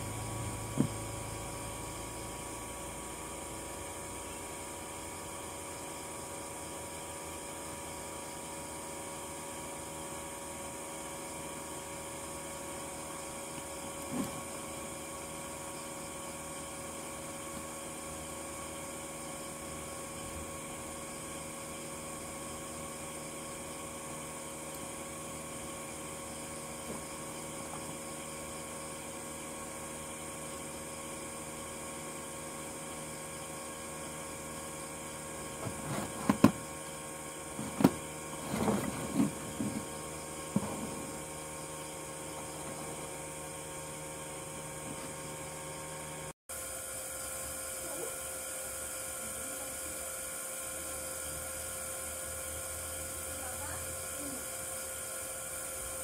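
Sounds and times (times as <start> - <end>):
electrical hum and hiss: 0.0 - 56.0.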